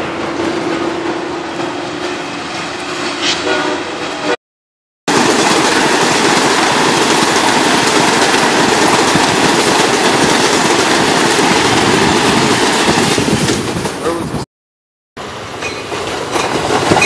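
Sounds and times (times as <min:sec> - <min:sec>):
train passing: 0:00.0 - 0:04.4, 0:05.1 - 0:14.4, 0:15.2 - 0:17.0.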